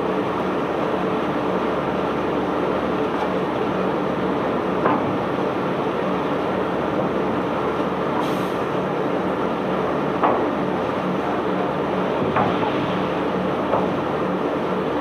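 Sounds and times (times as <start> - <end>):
diesel machinery drone: 0.0 - 15.0.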